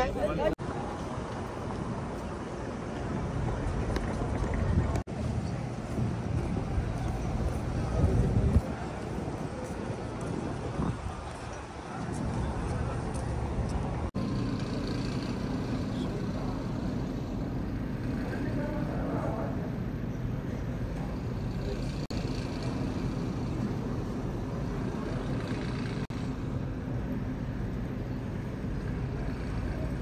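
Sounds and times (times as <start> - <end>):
low rumbling background noise: 0.0 - 30.0.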